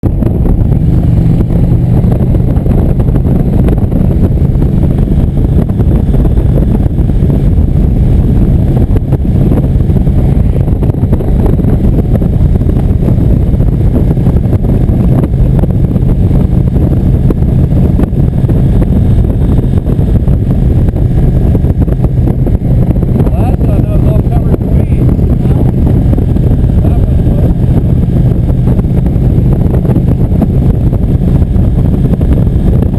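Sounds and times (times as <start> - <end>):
motorcycle engine running: 0.0 - 32.9
wind noise on microphone: 0.0 - 32.9.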